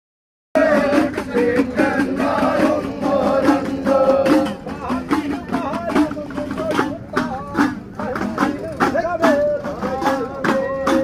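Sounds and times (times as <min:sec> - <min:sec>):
devotional singing with beat: 0:00.6 - 0:11.0.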